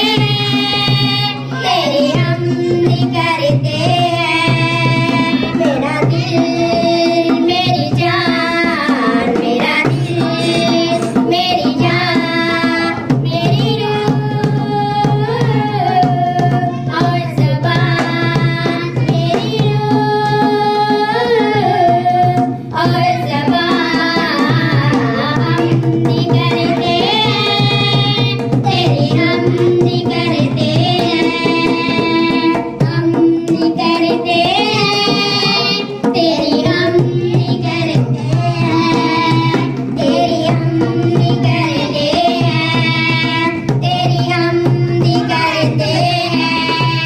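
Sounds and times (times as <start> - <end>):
barrel drum: 0.0 - 47.0
women singing devotional song: 0.0 - 47.0.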